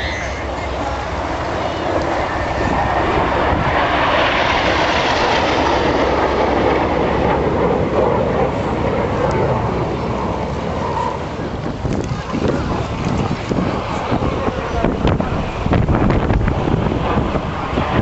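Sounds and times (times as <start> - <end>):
jets flying past: 0.0 - 18.0.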